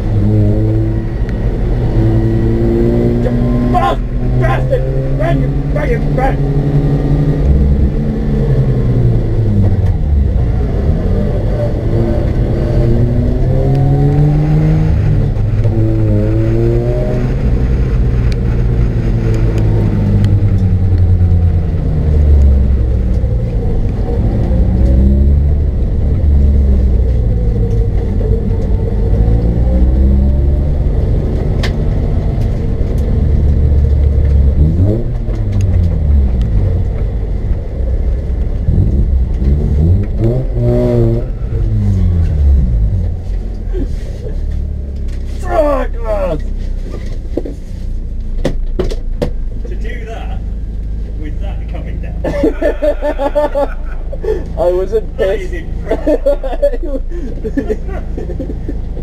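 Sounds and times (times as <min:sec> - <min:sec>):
rotary engine revving: 0:00.0 - 0:47.8, 0:49.4 - 0:59.0.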